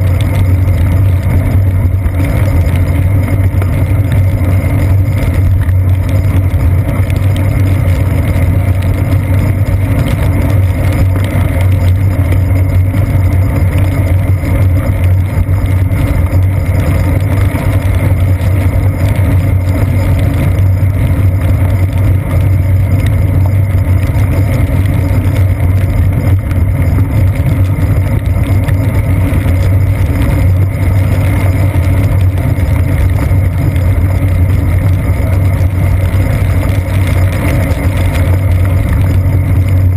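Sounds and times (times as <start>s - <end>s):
bicycle rolling on wet pavement: 0.0s - 39.9s.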